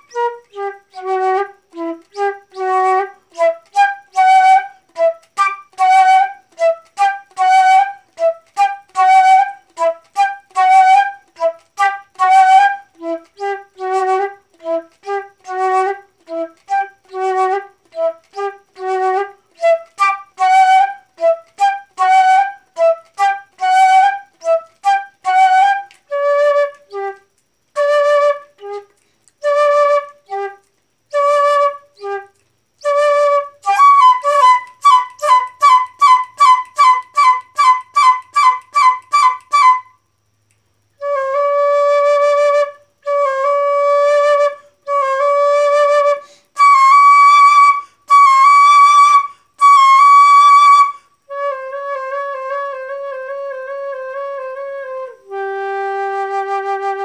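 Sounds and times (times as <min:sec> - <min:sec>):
solo flute melody: 0:00.0 - 0:40.2, 0:41.0 - 0:57.0.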